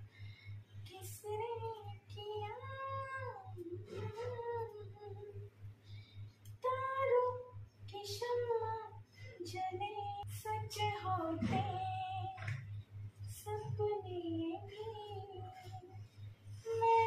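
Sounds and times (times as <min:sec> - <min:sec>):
steady low hum: 0:00.0 - 0:17.0
woman singing: 0:00.8 - 0:05.5, 0:06.6 - 0:12.7, 0:13.3 - 0:16.0, 0:16.6 - 0:17.0.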